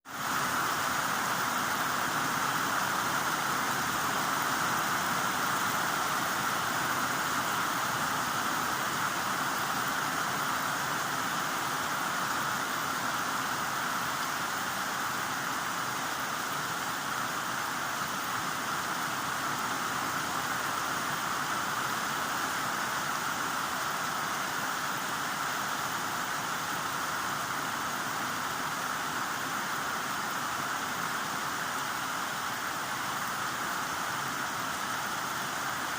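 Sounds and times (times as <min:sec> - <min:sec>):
heavy rain: 0:00.1 - 0:35.9.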